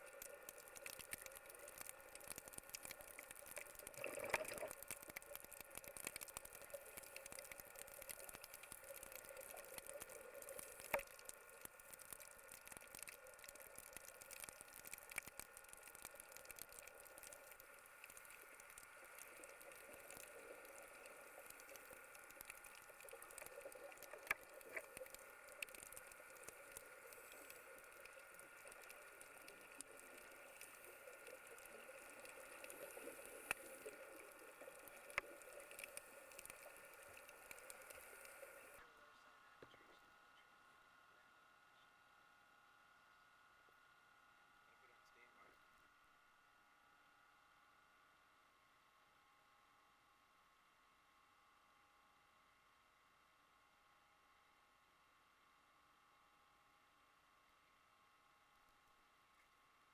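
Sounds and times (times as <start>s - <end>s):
fine underwater crackle: 0.0s - 38.9s, 43.4s - 59.9s
faint hum: 0.0s - 59.9s.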